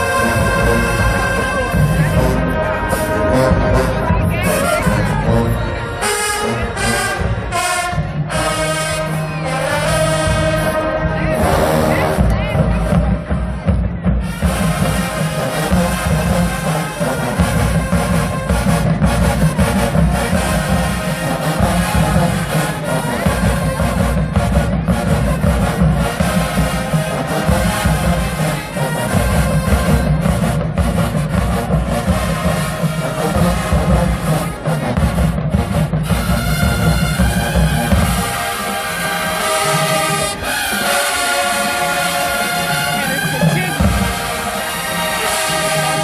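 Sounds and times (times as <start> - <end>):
marching band with brass and drums: 0.0 - 46.0.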